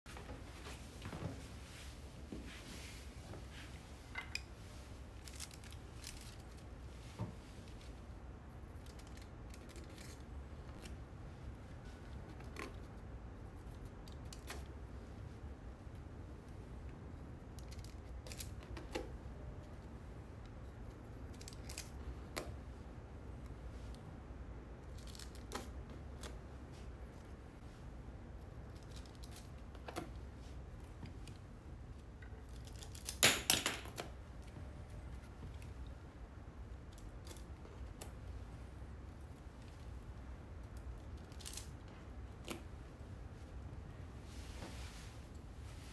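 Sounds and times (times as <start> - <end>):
low steady hum: 0.1 - 45.9.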